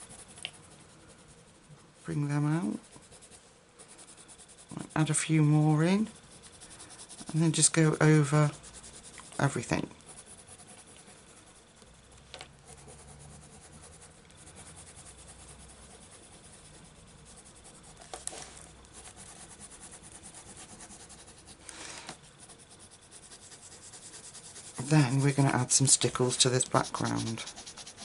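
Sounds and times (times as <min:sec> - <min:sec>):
pencil scratching on paper: 0:00.0 - 0:12.0, 0:12.6 - 0:28.0.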